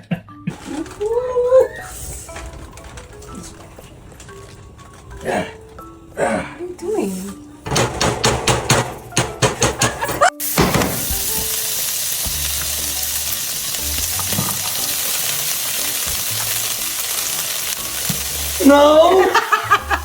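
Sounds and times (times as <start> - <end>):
hot oil sizzling: 0.5 - 20.0
rhythmic beats: 0.5 - 20.0.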